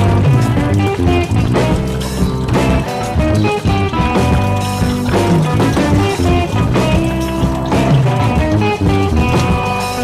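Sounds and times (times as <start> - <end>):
bass line: 0.0 - 10.0
guitar-led rock music: 0.0 - 10.0.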